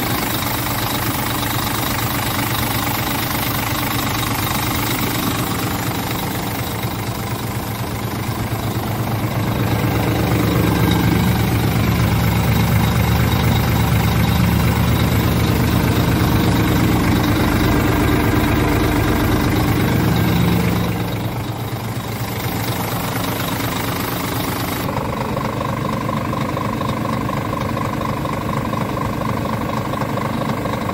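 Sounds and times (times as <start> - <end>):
truck diesel engine idling: 0.0 - 30.9.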